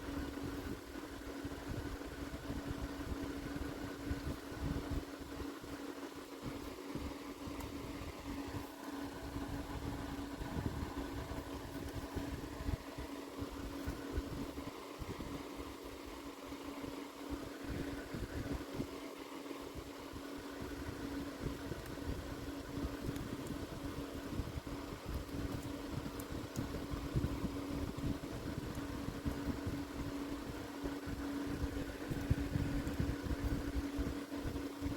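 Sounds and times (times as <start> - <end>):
mechanical hum with rumble: 0.0 - 34.9.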